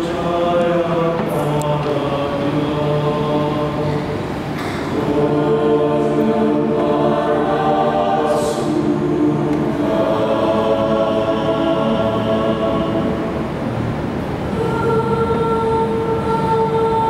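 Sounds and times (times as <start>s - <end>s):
mixed choir singing in harmony: 0.0s - 17.0s.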